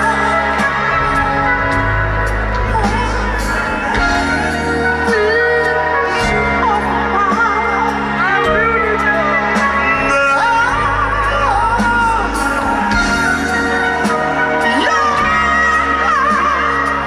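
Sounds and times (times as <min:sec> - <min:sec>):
bass: 0:00.0 - 0:17.0
bending melodic lead line: 0:00.0 - 0:17.0
drums with cymbal hits: 0:00.0 - 0:17.0.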